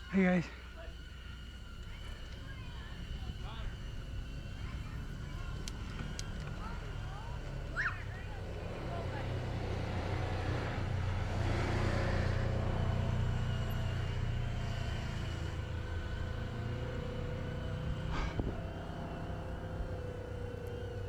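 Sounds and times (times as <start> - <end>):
faint steady whine: 0.0 - 21.0
wind and road noise rumble: 0.0 - 21.0.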